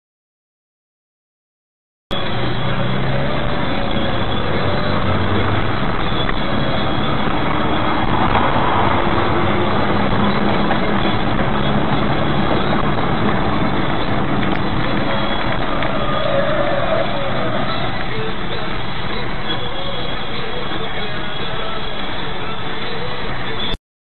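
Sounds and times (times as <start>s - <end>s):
car engine: 2.1s - 23.8s
road noise: 2.1s - 23.8s.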